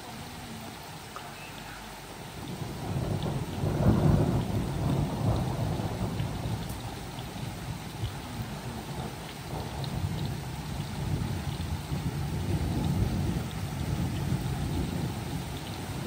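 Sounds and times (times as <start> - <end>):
rain falling: 0.0 - 16.0
thunder rumbling: 2.2 - 16.0.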